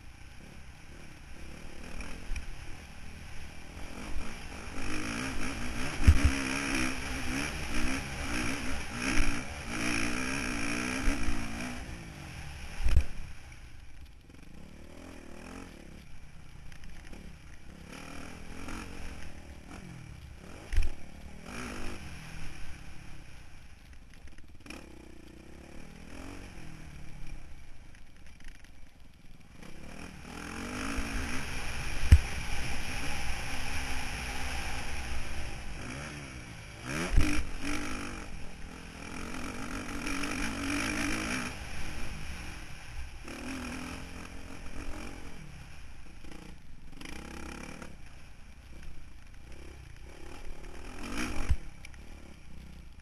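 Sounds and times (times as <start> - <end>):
motocross bike engine revving: 0.3 - 13.2, 14.3 - 16.0, 16.8 - 23.4, 24.6 - 27.3, 29.5 - 53.0.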